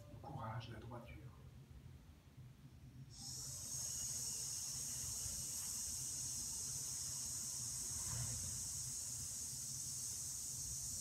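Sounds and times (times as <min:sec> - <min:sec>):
steady high-pitched hiss: 0:00.0 - 0:11.0.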